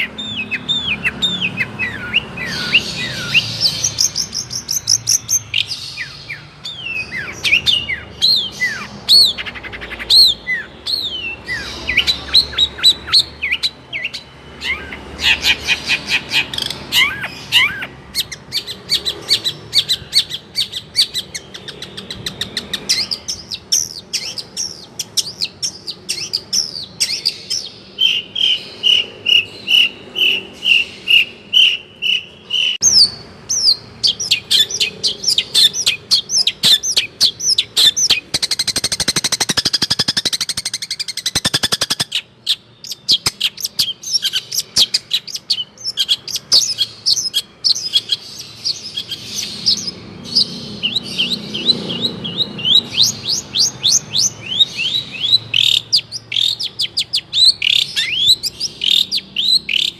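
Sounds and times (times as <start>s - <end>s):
shrike singing rapid chirps: 0.0s - 59.9s.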